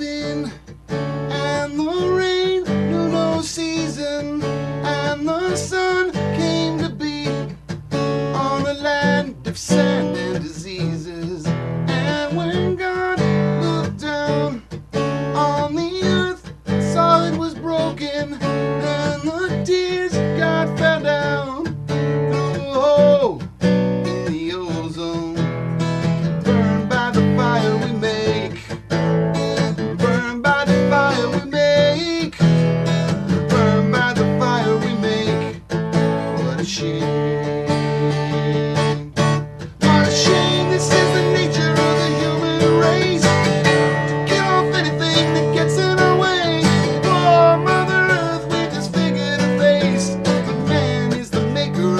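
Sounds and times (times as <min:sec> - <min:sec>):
guitar with bent notes: 0:00.0 - 0:51.9.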